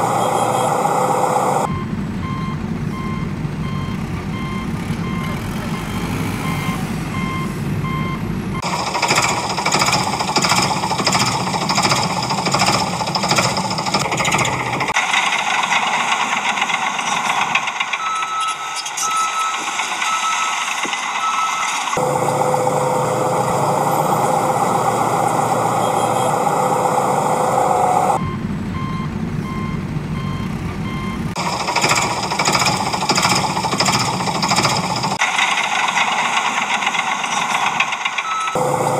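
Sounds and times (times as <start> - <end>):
truck engine running: 0.0 - 38.9
truck reversing alarm beeping: 0.0 - 38.9.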